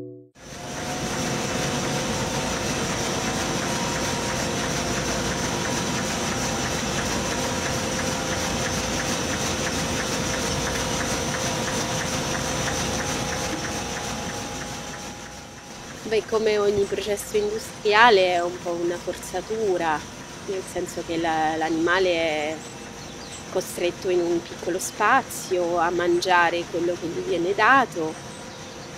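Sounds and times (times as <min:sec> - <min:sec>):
machinery hum and rattle: 0:00.4 - 0:28.9.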